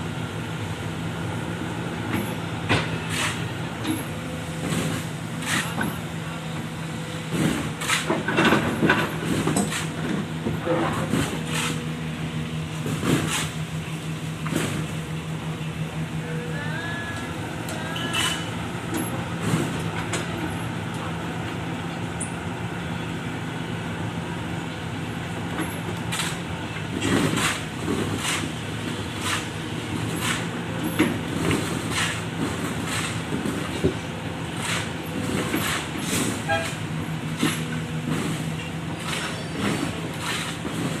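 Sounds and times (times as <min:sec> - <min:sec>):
excavator diesel engine: 0:00.0 - 0:41.0.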